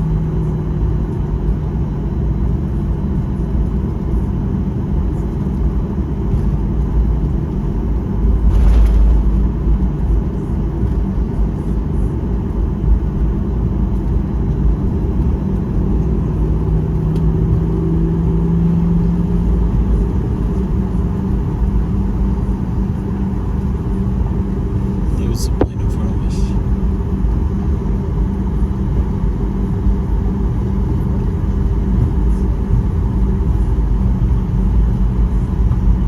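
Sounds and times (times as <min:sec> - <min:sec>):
aircraft engines rumbling in cabin: 0:00.0 - 0:36.0.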